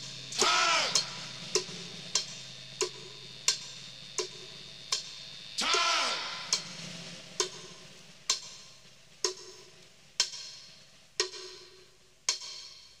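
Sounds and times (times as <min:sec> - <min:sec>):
sharp ticks: 0:00.4 - 0:05.9, 0:07.4 - 0:13.0.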